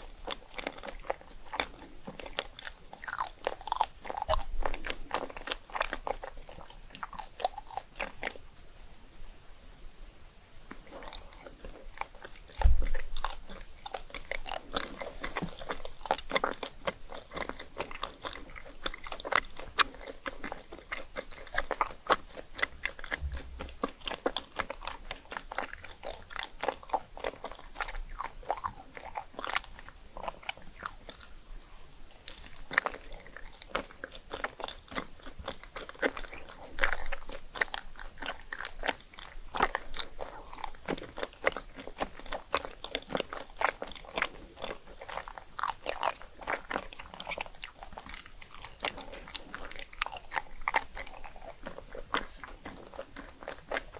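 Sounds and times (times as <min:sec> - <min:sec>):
chewing crisp rice cakes: 0:00.0 - 0:08.8, 0:10.7 - 0:53.9.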